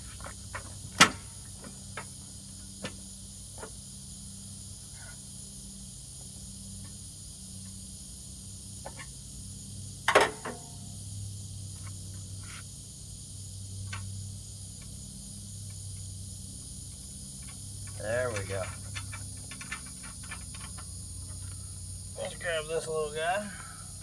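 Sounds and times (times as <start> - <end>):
steady low hum: 0.0 - 24.0
high hiss: 1.0 - 24.0.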